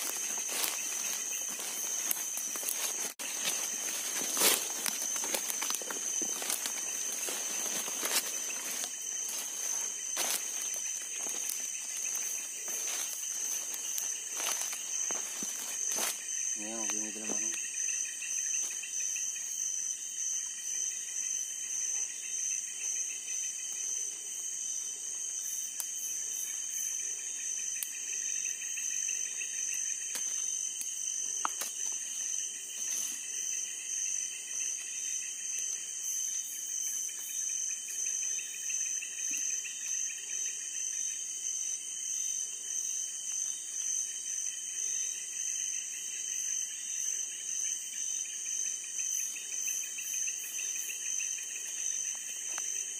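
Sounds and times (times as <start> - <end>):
night insects trilling: 0.0 - 52.9.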